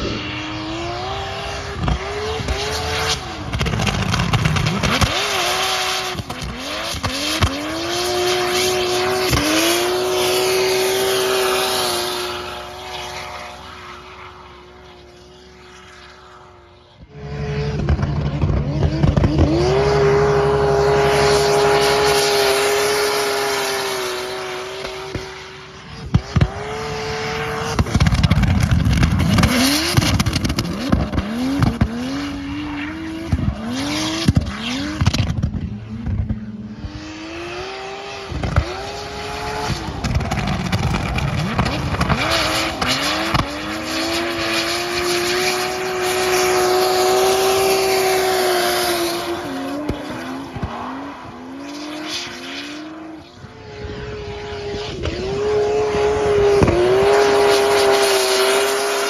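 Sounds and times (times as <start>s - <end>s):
car engine revving high: 0.0s - 59.0s.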